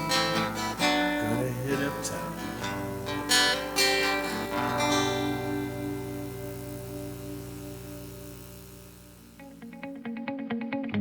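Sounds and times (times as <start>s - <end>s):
acoustic guitar strumming: 0.0s - 10.8s.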